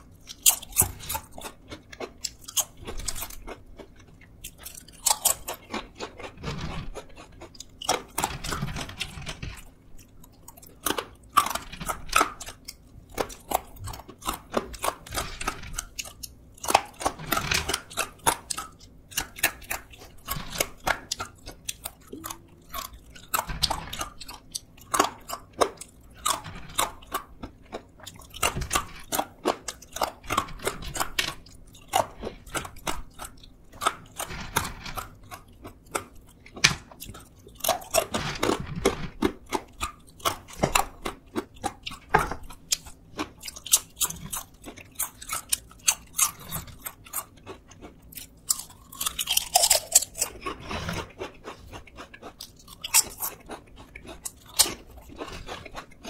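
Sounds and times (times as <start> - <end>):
crunching fried sweet potato sticks: 0.0 - 56.0.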